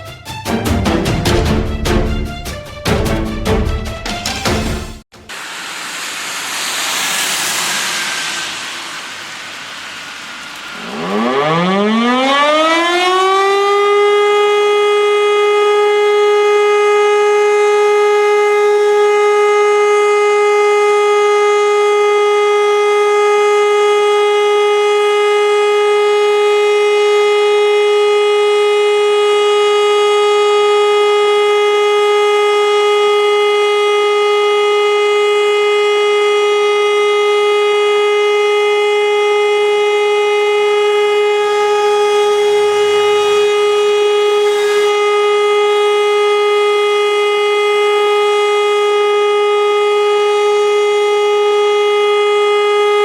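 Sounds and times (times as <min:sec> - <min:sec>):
civil defence siren steady tone: 0:05.3 - 0:53.0.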